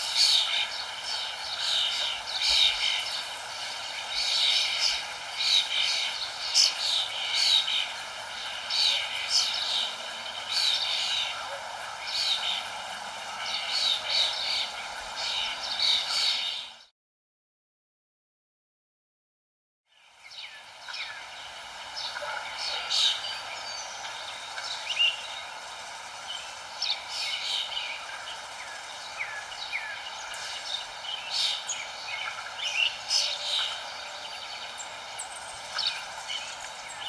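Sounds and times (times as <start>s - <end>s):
small birds chirping: 0.0s - 16.9s, 19.9s - 37.0s
steady background hiss: 0.0s - 16.9s, 19.9s - 37.0s.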